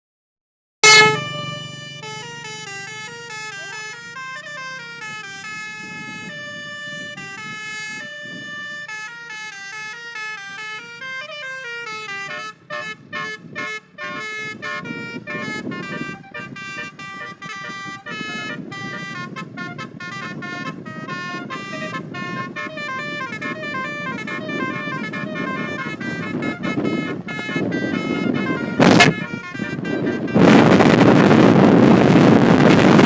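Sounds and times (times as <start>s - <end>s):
multi-tone bus horn tune: 0.8s - 33.0s.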